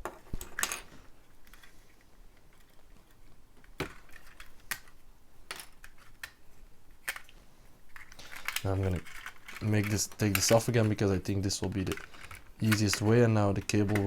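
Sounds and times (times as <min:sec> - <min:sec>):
plastic bricks clicking: 0:00.0 - 0:14.0.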